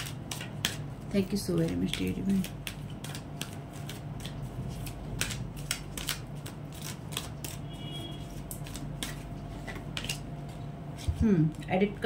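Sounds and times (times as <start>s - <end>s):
cards being shuffled: 0.0s - 7.6s, 8.2s - 10.3s.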